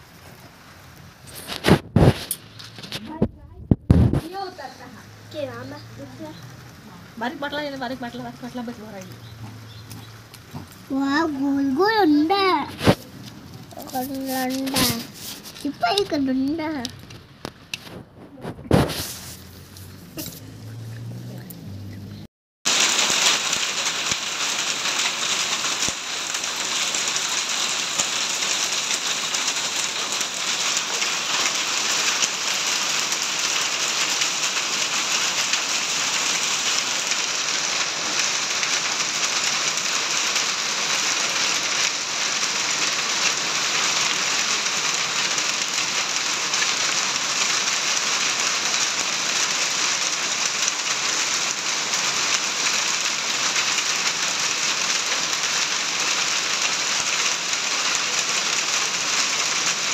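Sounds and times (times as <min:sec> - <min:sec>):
heavy rain on ground: 0:00.0 - 0:59.9.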